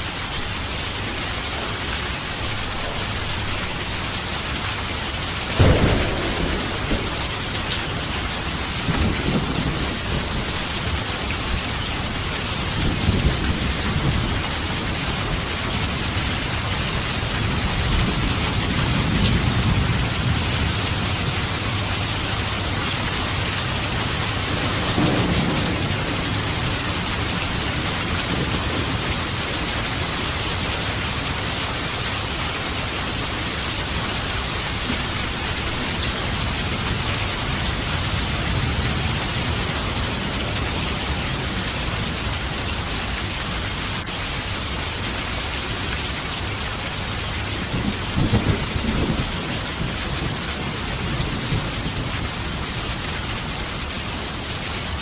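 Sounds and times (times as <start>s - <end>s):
heavy rain: 0.0s - 55.0s
thunder rumbling: 2.2s - 42.9s, 47.0s - 52.8s.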